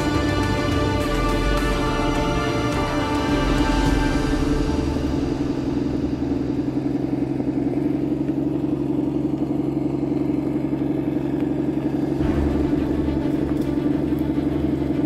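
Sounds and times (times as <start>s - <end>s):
deeper rumble: 0.0s - 15.0s
electric motor and gear drone: 0.0s - 15.0s.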